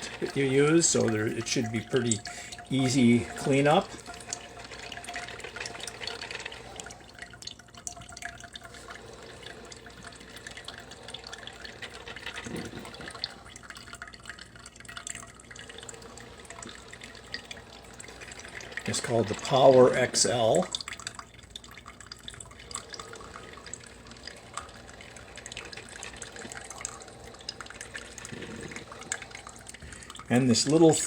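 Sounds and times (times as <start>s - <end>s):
coffee trickling into cup: 0.0s - 31.0s.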